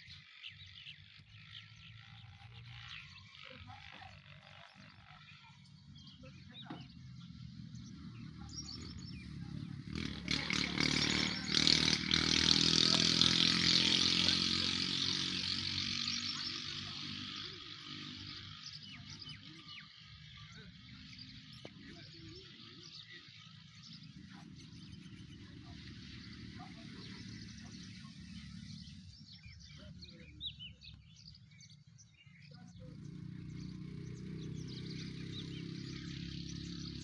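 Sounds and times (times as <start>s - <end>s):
motor vehicle passing: 0.4s - 31.8s, 32.5s - 37.0s.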